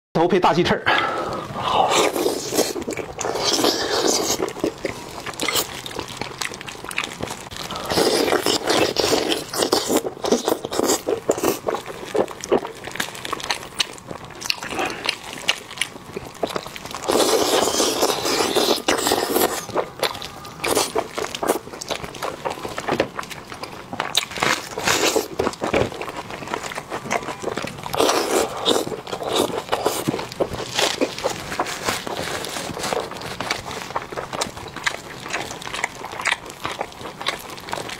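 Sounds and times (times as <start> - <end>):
wet chewing and biting: 1.6 - 37.9.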